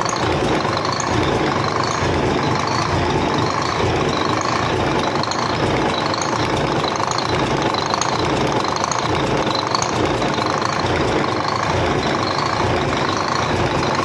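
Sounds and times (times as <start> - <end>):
diesel engine knocking: 0.0 - 14.0.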